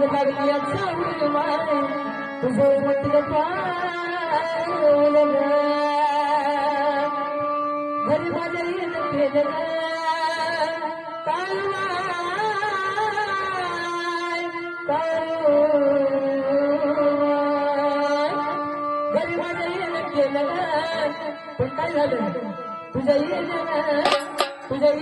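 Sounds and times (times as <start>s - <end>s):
instrumental accompaniment: 0.0s - 25.0s.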